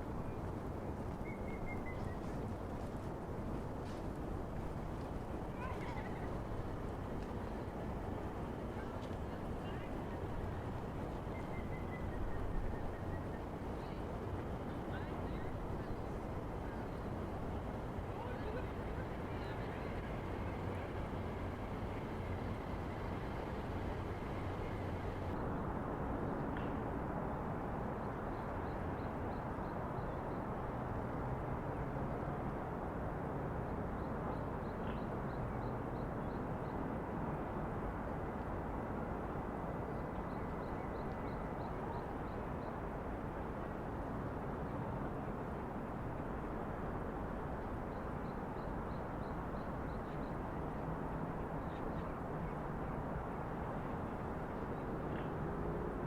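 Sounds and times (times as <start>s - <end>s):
distant traffic: 0.0s - 56.0s.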